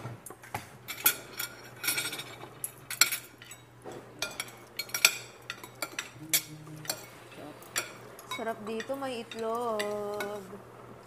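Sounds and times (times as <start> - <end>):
cutlery clinking on dishes: 0.9 - 10.4.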